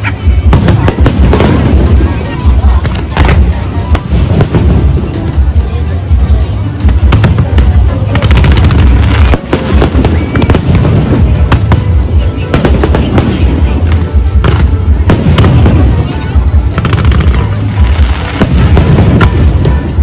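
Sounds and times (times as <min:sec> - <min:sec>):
fireworks bursting: 0:00.0 - 0:20.0
music: 0:00.0 - 0:20.0.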